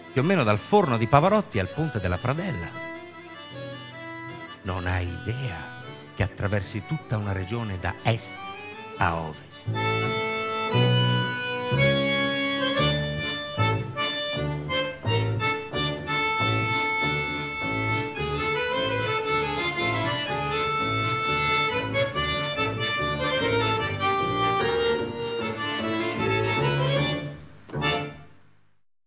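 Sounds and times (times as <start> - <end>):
accordion chords: 0.0 - 28.8
double bass notes: 0.0 - 28.8.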